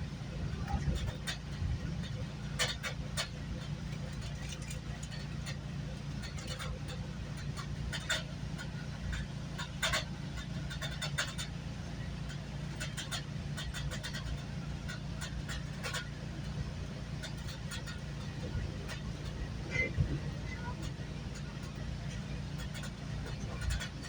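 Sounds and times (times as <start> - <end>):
train rumble inside coach: 0.0 - 24.0
clicks and rattles: 0.5 - 11.6, 12.2 - 24.0.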